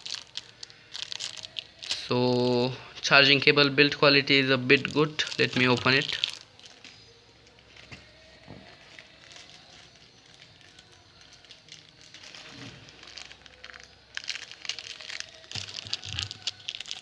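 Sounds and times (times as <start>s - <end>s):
packaging crinkling and rustling: 0.0s - 2.6s, 4.8s - 17.0s.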